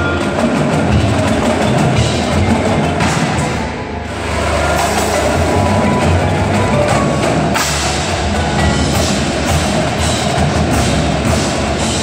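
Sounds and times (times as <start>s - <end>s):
marimbas and vibraphones: 0.0s - 12.0s
tenor and bass drums: 0.0s - 12.0s.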